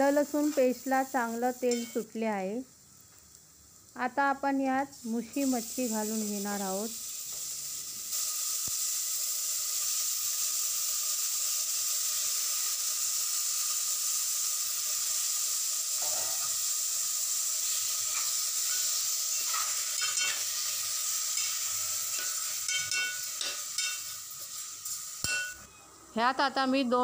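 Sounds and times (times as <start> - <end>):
fish sizzling in hot oil: 0.0 - 25.6.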